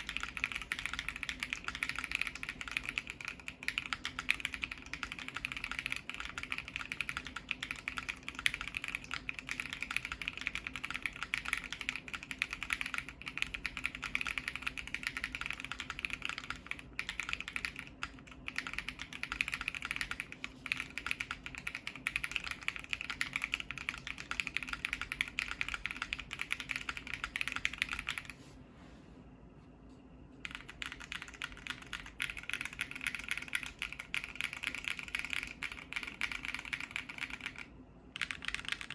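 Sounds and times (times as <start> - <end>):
mechanical keyboard typing: 0.0 - 28.4, 30.4 - 38.9.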